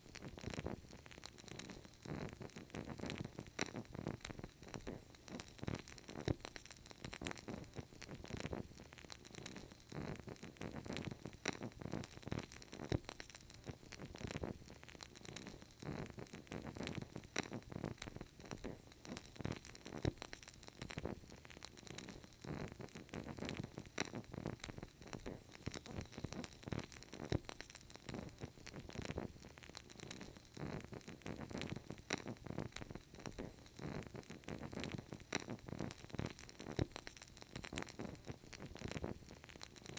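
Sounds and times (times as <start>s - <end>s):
candle crackling and popping: 0.0s - 39.9s.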